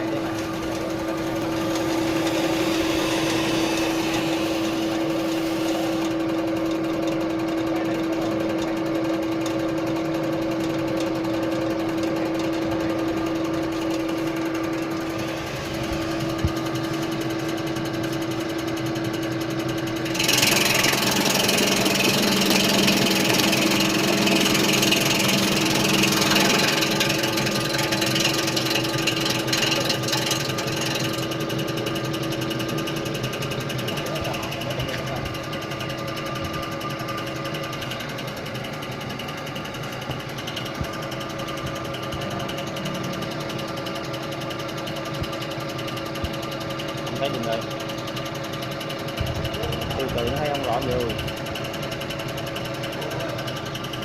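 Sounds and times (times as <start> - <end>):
slicing machine motor hum: 0.0 - 54.0.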